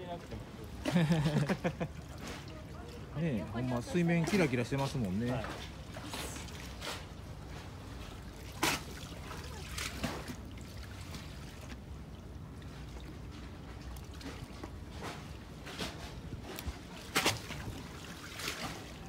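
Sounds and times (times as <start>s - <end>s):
water lapping against pier: 0.0s - 19.0s.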